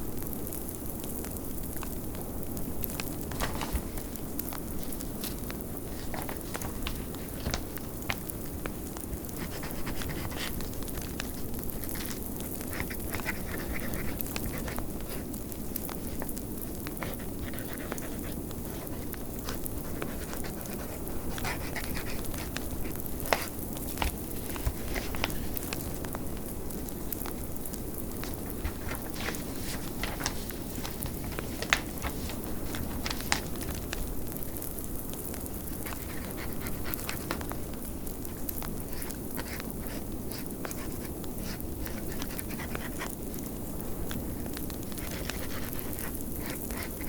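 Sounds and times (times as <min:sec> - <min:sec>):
fireplace crackling and popping: 0:00.0 - 0:47.0.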